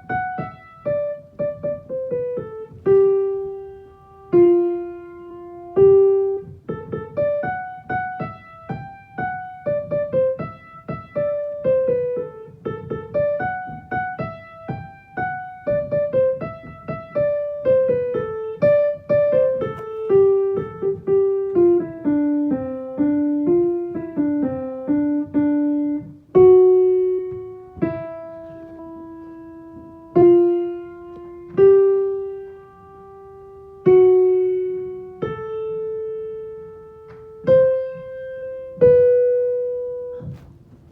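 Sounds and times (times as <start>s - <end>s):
piano melody: 0.0s - 40.9s.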